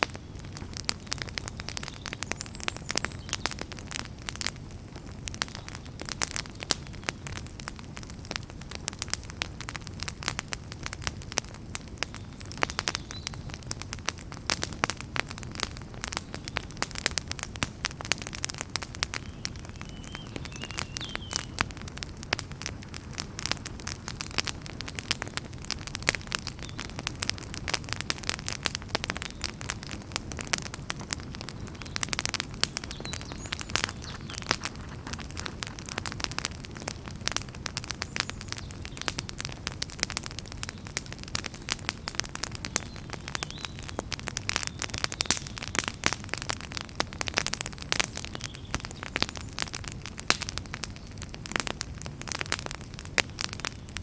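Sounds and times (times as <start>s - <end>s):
campfire crackling and popping: 0.0s - 54.0s
low rumble of flames: 0.0s - 54.0s.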